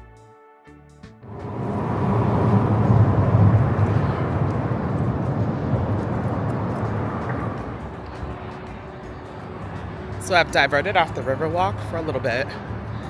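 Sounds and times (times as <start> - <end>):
passing road traffic rumble: 1.2 - 13.0.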